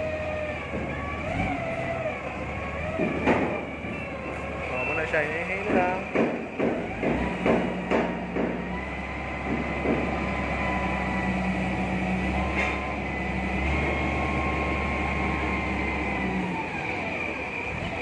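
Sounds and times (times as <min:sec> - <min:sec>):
forklift engine under load: 0:00.0 - 0:18.0.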